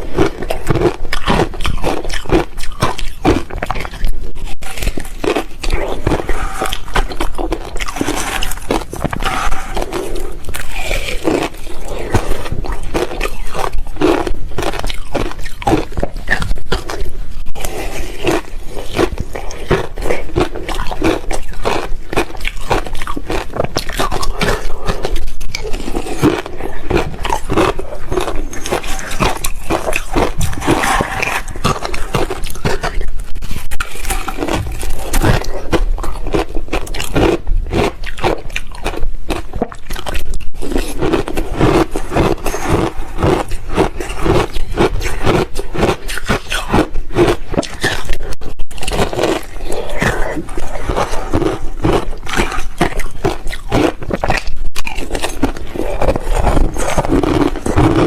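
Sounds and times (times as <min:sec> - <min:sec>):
ice crunching while chewed: 0:00.0 - 0:58.0.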